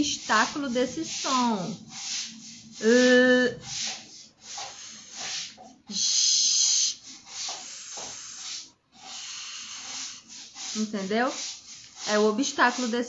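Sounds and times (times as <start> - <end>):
woman making hissed consonants: 0.0 - 13.0.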